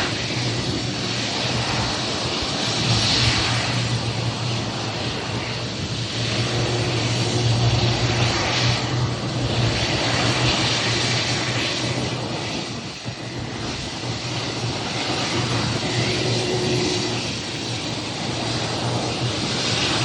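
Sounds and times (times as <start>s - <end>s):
airliner engines roaring: 0.0s - 20.0s.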